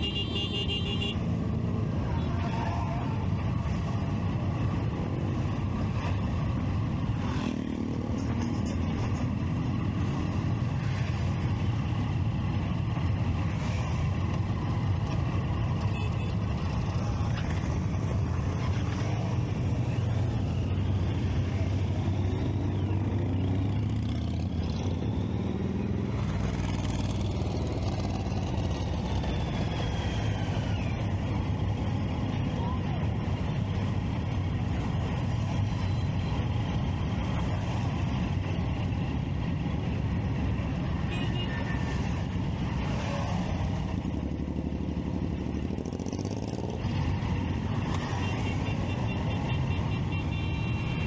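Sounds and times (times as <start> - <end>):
road traffic: 0.0 - 51.0.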